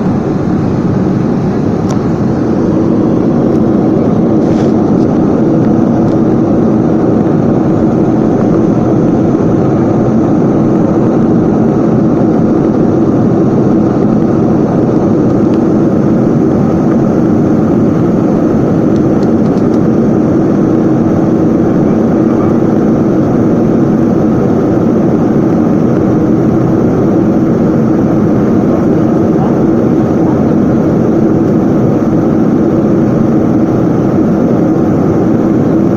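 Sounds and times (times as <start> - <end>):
airplane engines at high power: 0.0 - 35.9.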